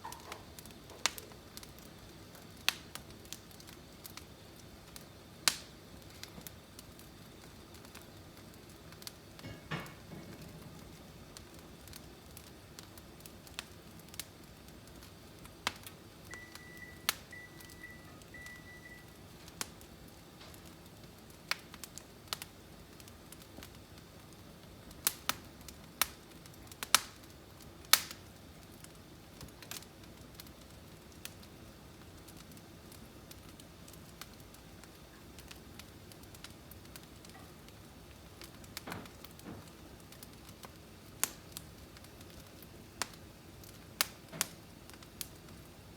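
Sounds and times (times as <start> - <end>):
firewood crackling and popping: 0.0 - 45.9.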